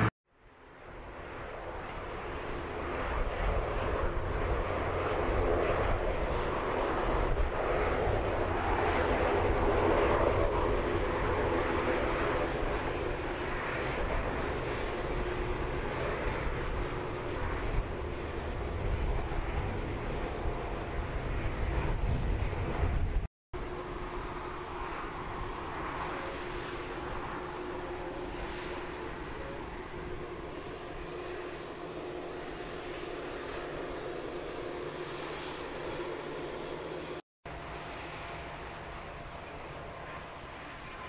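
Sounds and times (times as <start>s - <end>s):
jet engine rumble and hiss: 0.0s - 41.0s.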